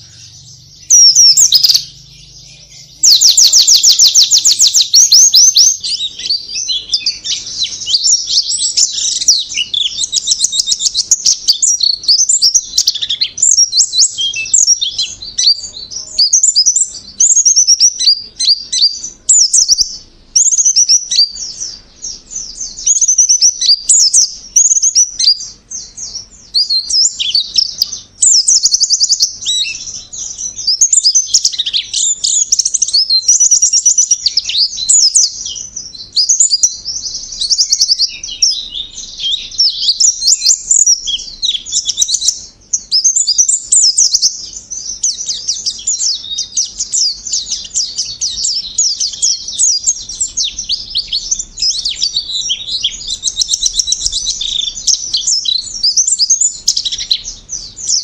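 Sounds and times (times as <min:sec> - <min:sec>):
bird twittering trills: 0:00.0 - 0:58.0.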